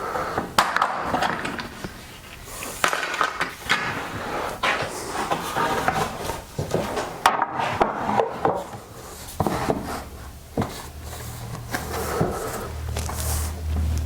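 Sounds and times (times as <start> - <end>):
wood rubbing on wood: 0.0 - 14.0.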